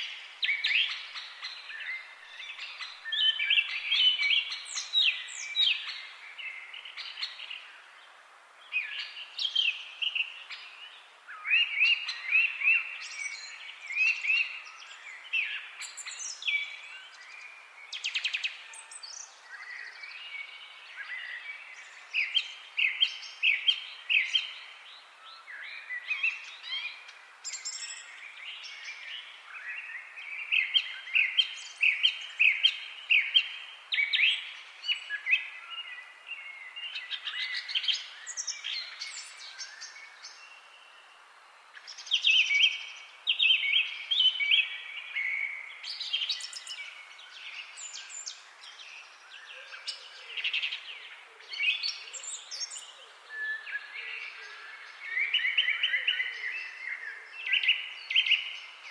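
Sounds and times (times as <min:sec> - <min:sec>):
faint background hiss: 0:00.0 - 0:58.9
songbirds chirping and trilling: 0:00.0 - 0:58.9.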